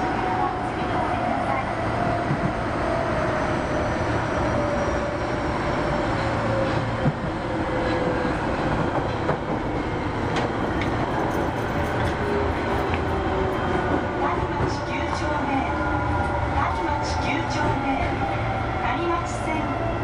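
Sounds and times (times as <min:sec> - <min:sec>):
subway wheels rumbling on rail: 0:00.0 - 0:20.0.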